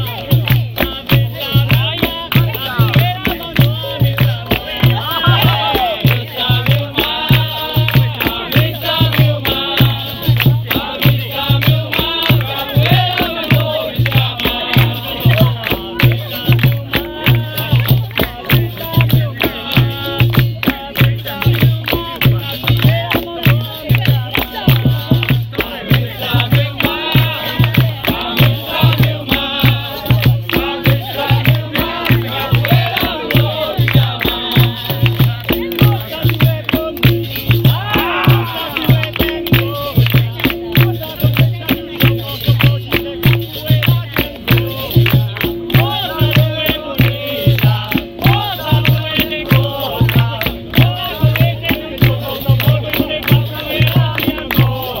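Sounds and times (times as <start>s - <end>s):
group singing: 0.0s - 55.0s
rattling hand percussion: 0.0s - 55.0s
steady drum beat: 0.0s - 55.0s.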